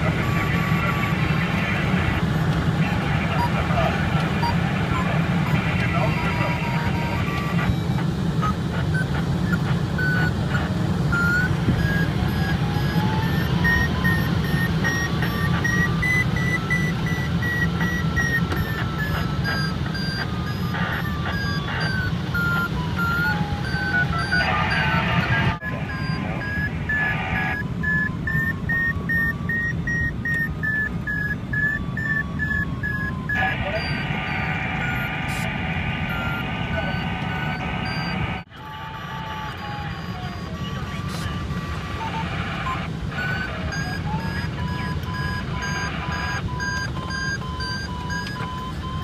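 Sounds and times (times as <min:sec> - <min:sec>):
high-pitched variometer beeping: 0:00.0 - 0:49.0.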